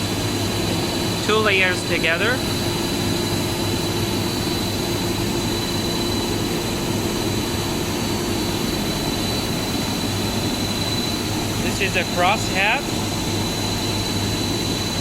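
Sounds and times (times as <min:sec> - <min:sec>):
extrusion machinery running: 0:00.0 - 0:15.0.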